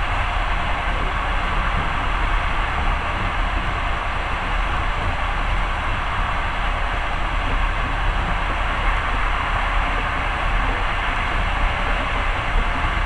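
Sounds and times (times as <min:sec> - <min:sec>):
low rumble of train wheels: 0:00.0 - 0:13.0.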